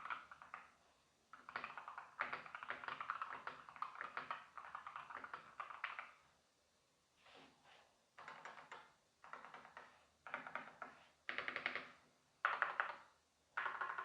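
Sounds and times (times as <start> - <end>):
keyboard typing: 0.0 - 6.2, 8.2 - 14.0.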